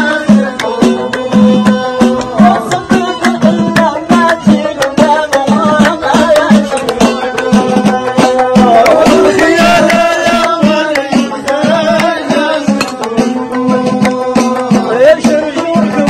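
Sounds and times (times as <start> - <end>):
steady percussion beat: 0.0 - 16.0
plucked lutes: 0.5 - 16.0.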